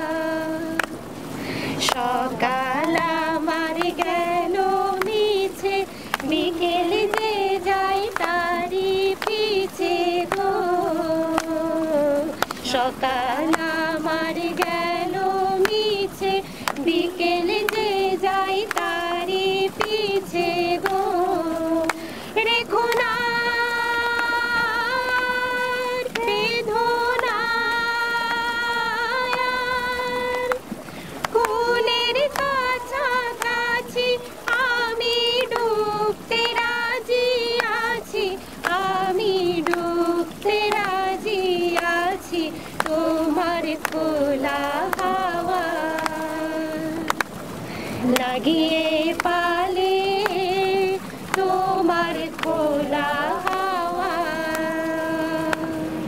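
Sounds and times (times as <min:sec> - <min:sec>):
woman singing: 0:00.0 - 0:01.0, 0:01.8 - 0:47.2, 0:48.0 - 0:56.0.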